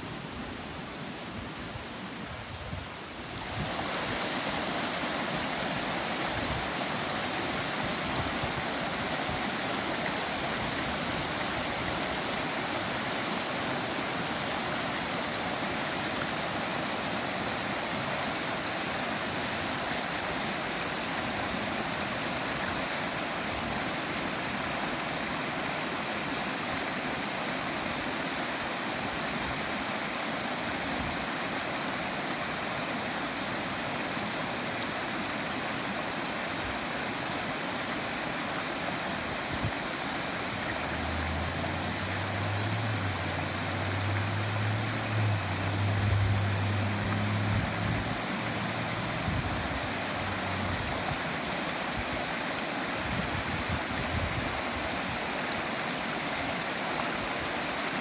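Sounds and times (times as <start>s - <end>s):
creek rushing over stones: 0.0s - 58.0s.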